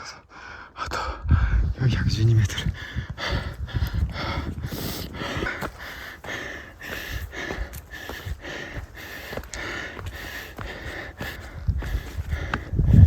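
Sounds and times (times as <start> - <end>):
person breathing hard: 0.0 - 1.8, 2.6 - 13.0.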